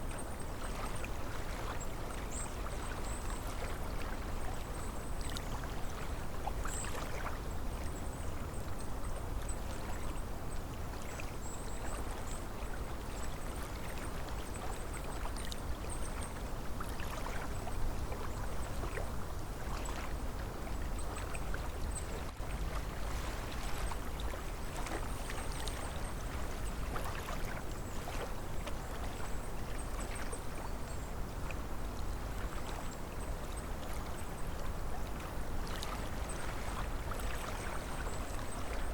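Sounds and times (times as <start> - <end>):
small waves lapping on shore: 0.0 - 38.9.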